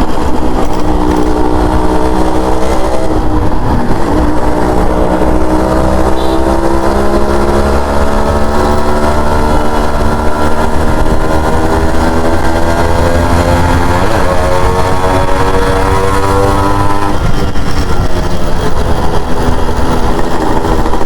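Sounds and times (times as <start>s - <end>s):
motorcycle engine running: 0.0s - 21.0s
wind and road rumble: 0.0s - 21.0s.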